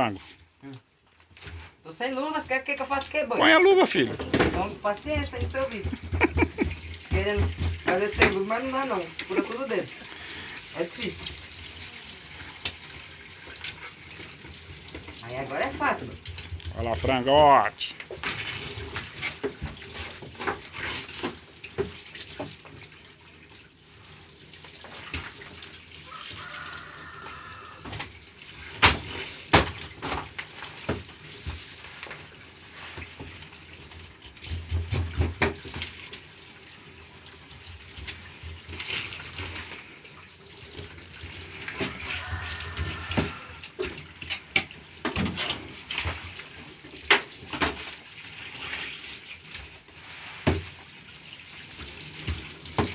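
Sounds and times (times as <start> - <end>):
tap water running into sink: 1.2 - 52.9.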